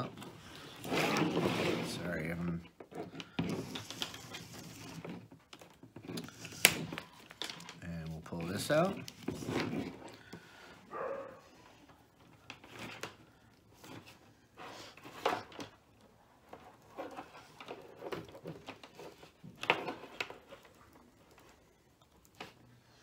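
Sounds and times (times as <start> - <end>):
wires rustling and scraping: 0.0 - 23.0.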